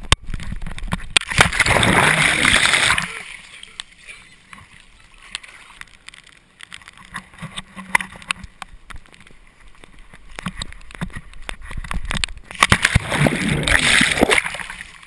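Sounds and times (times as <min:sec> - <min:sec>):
surf: 0:00.0 - 0:15.0.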